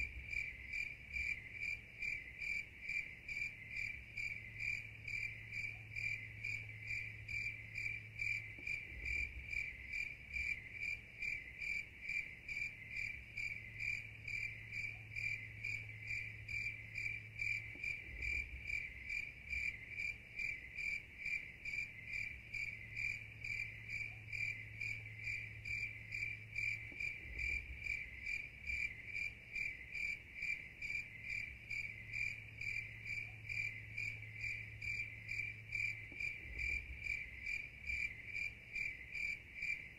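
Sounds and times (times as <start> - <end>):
crickets chirping: 0.0 - 39.9
faint low hum: 0.0 - 39.9.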